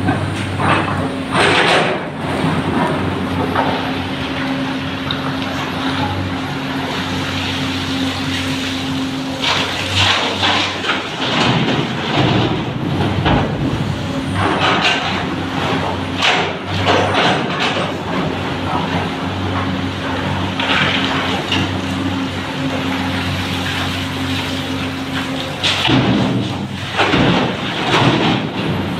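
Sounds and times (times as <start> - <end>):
diesel engines running: 0.0 - 28.9.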